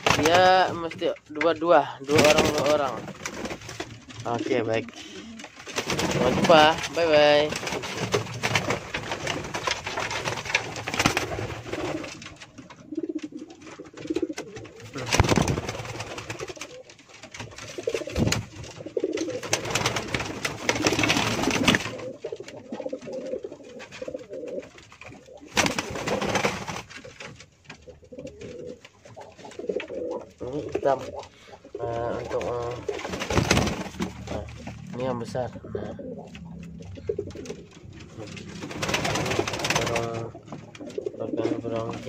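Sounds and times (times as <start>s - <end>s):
loud rustling bursts: 0.0s - 1.0s, 2.1s - 12.8s, 13.6s - 27.8s, 28.5s - 35.5s, 36.3s - 42.0s
pigeons cooing: 0.0s - 42.0s.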